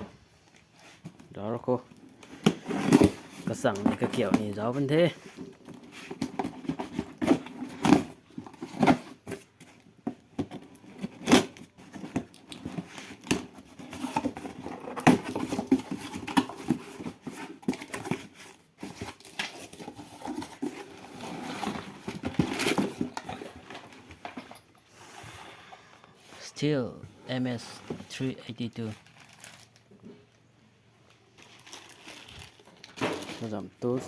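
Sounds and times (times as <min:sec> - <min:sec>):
packaging rustling and tearing: 0:01.9 - 0:24.2, 0:27.5 - 0:30.0, 0:31.1 - 0:34.0.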